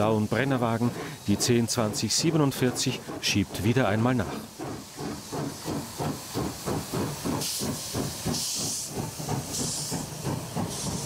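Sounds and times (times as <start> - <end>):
steam hissing from cylinders: 0.0 - 11.0
steam locomotive exhausts chuffing: 0.0 - 11.0.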